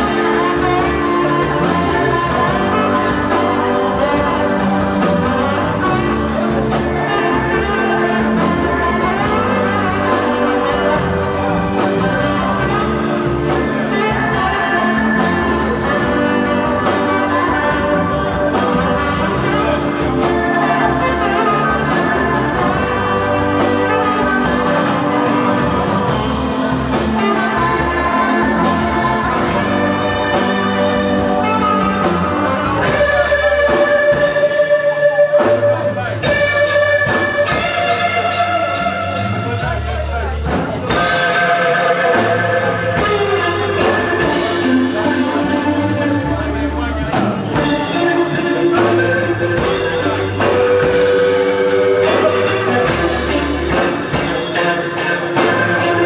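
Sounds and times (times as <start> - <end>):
live rock band playing: 0.0 - 56.0
steady drum beat: 0.0 - 56.0.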